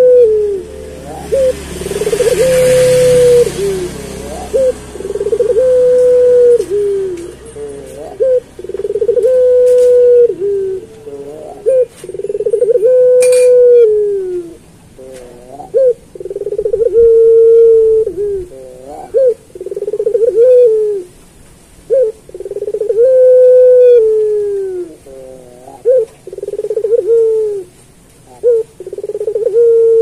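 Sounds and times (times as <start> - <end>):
dove cooing: 0.0 - 21.2, 21.9 - 30.0.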